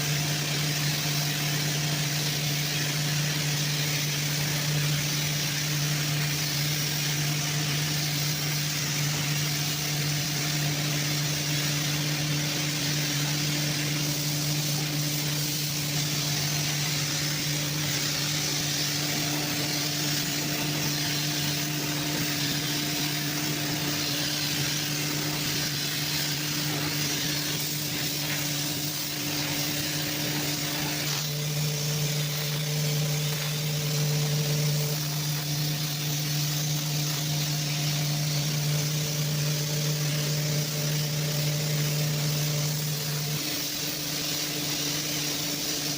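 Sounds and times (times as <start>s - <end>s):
machine humming: 0.0s - 45.9s.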